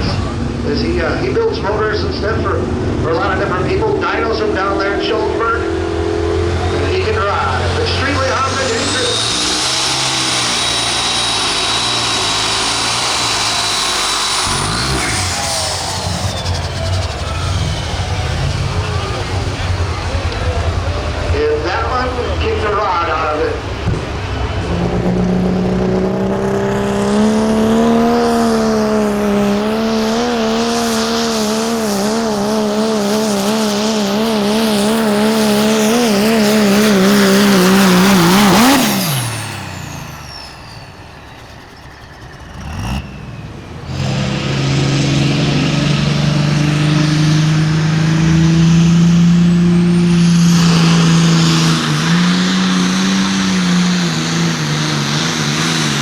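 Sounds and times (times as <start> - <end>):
pulling vehicle engine at high revs: 0.0 - 56.0.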